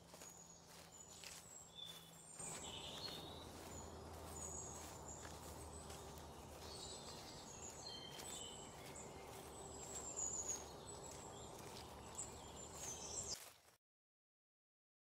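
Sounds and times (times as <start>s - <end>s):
small birds chirping: 0.0s - 13.4s
rural background noise: 0.0s - 13.6s.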